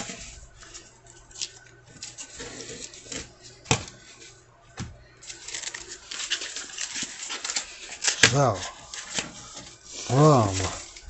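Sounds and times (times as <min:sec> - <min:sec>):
paper and tape rustling: 0:00.0 - 0:04.4, 0:05.2 - 0:11.0.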